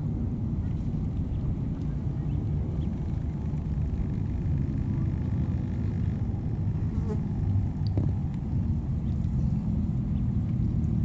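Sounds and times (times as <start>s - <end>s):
ship engine rumble: 0.0s - 11.0s.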